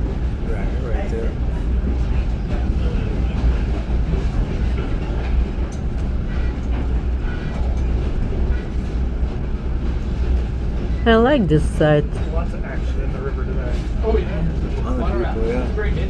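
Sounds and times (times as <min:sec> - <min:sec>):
train car rumbling on track: 0:00.0 - 0:16.0.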